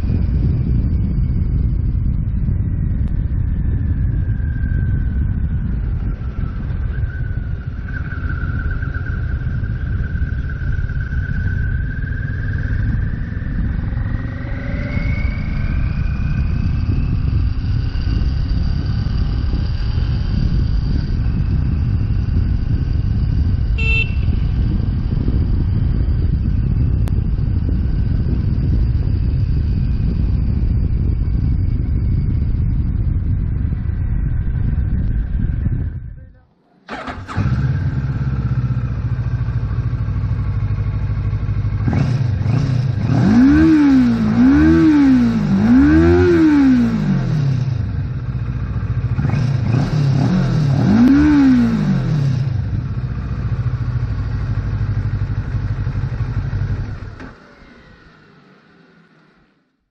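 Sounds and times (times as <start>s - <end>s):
motorcycle engine running: 0.0s - 36.3s, 36.9s - 59.7s
wind rushing over microphone: 0.0s - 58.3s.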